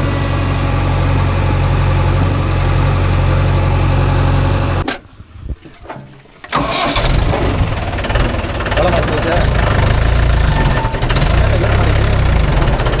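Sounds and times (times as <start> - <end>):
diesel engine idling: 0.0 - 4.8, 6.5 - 13.0.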